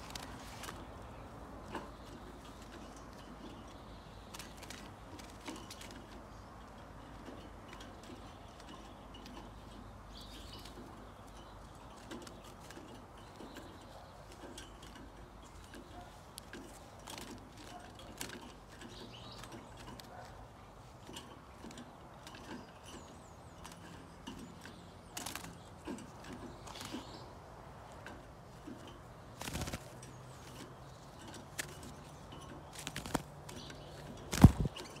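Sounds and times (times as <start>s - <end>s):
hands handling clicks and rustles: 0.0s - 27.2s, 27.8s - 35.0s.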